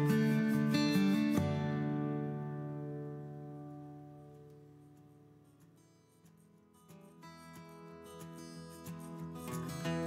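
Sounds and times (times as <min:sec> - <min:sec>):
guitar playing melody: 0:00.0 - 0:10.0.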